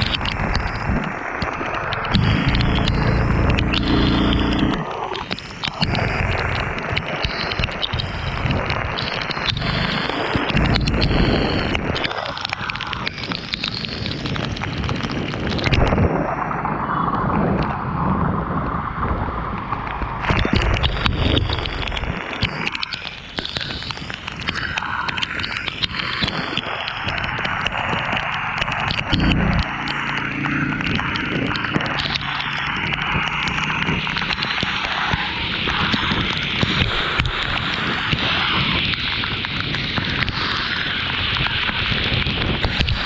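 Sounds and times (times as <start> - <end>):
rain: 0.0 - 43.0
road noise: 0.0 - 43.0
wind buffeting microphone: 0.0 - 43.0.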